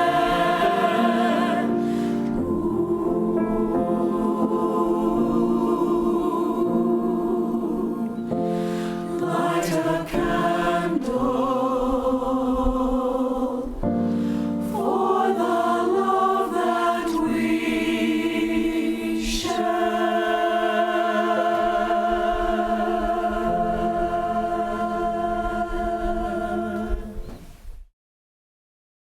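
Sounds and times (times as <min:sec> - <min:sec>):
choir singing: 0:00.0 - 0:27.6.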